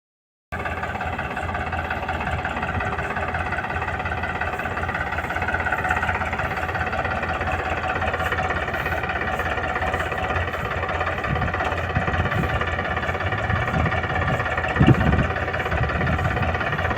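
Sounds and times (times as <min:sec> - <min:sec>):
diesel engine droning: 0:00.5 - 0:16.9.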